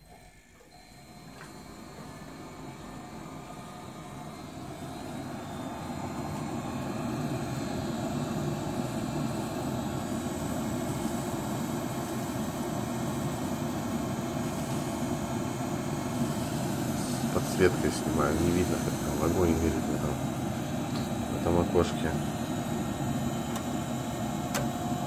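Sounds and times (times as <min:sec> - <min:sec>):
boiler fan and burner humming: 0:00.0 - 0:25.0.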